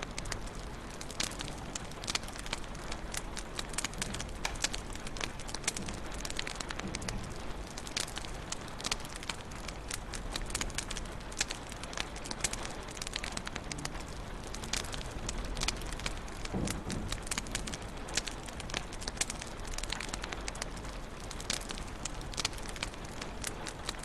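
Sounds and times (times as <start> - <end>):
flames hissing and rumbling: 0.0 - 24.0
wood fire pops and snaps: 0.0 - 24.0.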